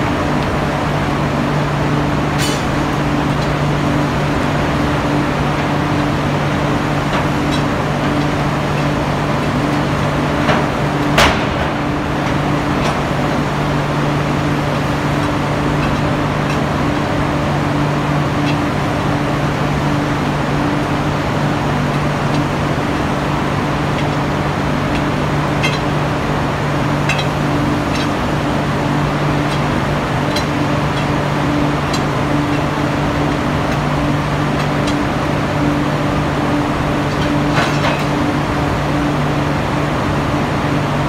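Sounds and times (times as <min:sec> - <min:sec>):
higher machinery hum: 0:00.0 - 0:41.0
low machinery hum: 0:00.0 - 0:41.0.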